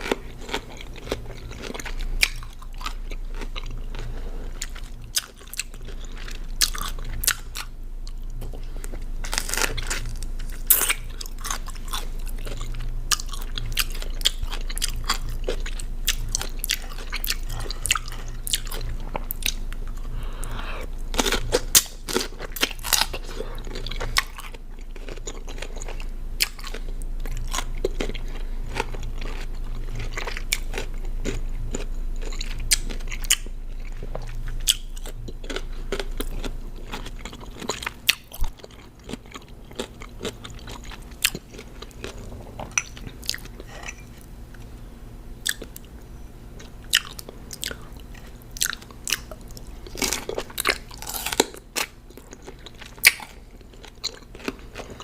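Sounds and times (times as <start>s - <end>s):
chewing cucumber crunches: 0.0s - 20.1s, 21.0s - 44.7s, 45.4s - 46.0s, 46.6s - 55.0s.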